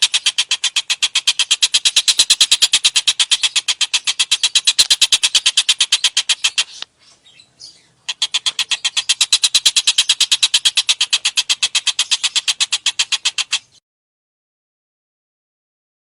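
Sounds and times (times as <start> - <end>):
songbird harsh chattering call: 0.0 - 13.8.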